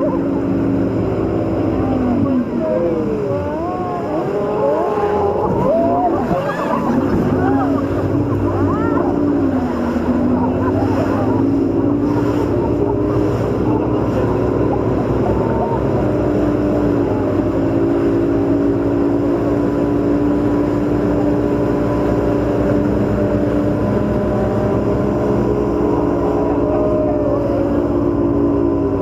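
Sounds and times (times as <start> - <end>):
motorboat engines droning: 0.0 - 29.0
rushing water: 0.0 - 29.0
wind: 0.0 - 29.0.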